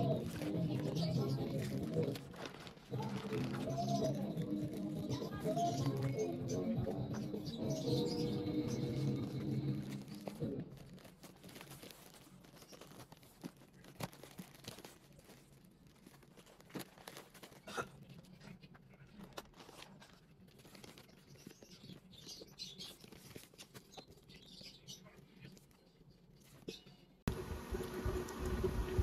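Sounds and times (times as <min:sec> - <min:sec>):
plastic packaging crinkling: 0:00.0 - 0:25.8.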